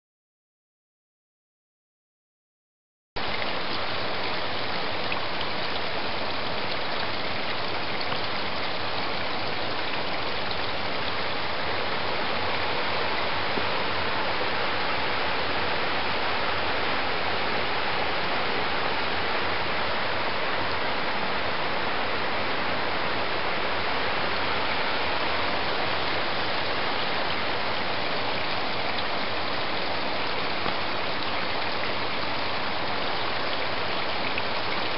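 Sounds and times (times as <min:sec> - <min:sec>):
river rushing over stones: 0:03.2 - 0:34.9.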